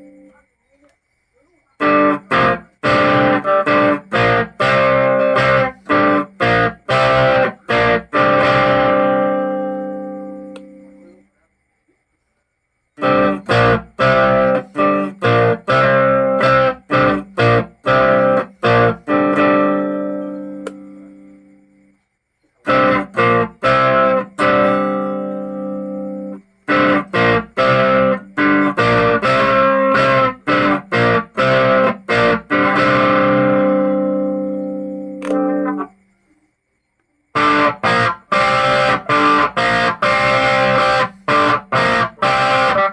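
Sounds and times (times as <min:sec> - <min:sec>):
overdriven electric guitar chords: 0:00.0 - 0:00.3, 0:01.8 - 0:11.1, 0:13.0 - 0:21.6, 0:22.6 - 0:35.9, 0:37.4 - 0:42.9.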